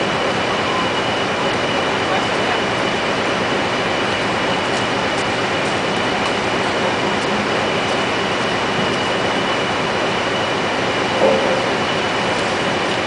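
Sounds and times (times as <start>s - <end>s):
heavy machinery running: 0.0s - 13.0s
high whine: 0.0s - 13.0s.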